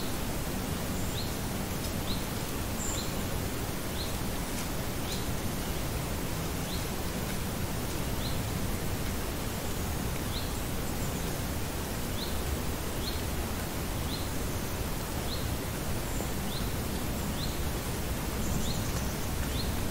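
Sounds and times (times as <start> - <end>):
steady outdoor hiss: 0.0 - 19.9.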